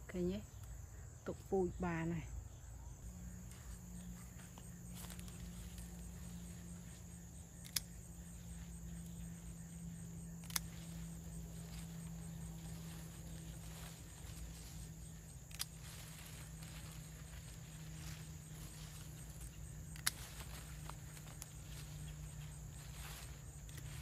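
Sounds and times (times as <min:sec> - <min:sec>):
high insect drone: 0:00.0 - 0:24.0
low steady hum: 0:00.0 - 0:24.0
pruning shears snipping: 0:03.4 - 0:24.0.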